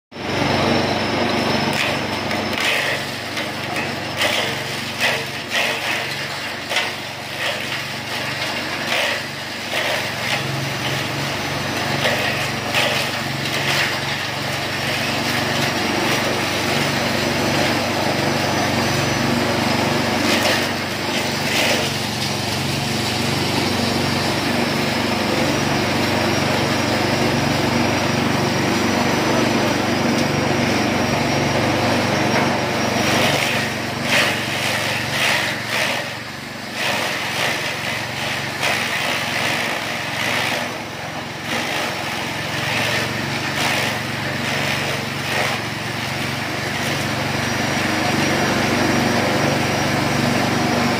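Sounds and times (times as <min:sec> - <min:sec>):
forage chopper motor hum: 0:00.1 - 0:50.9.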